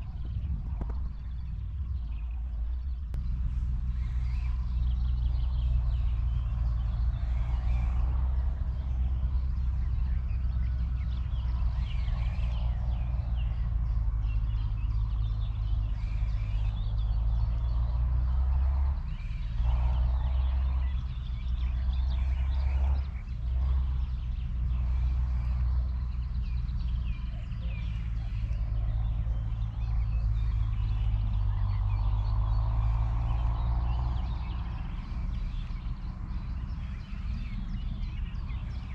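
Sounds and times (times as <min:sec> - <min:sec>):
birds singing: 0:00.0 - 0:38.9
wind rumbling on microphone: 0:00.0 - 0:38.9.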